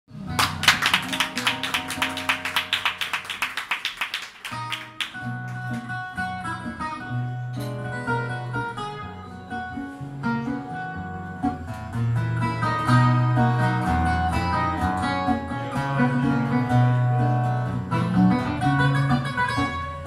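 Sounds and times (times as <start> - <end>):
acoustic guitar playing: 0.1 - 20.0.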